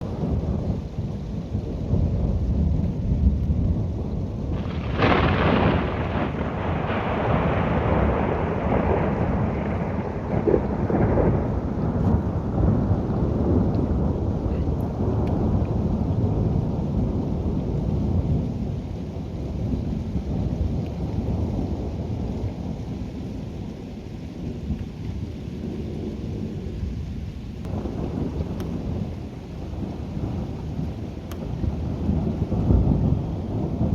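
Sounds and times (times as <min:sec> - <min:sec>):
rain: 0:00.0 - 0:33.9
thunder rumbling: 0:00.0 - 0:33.9.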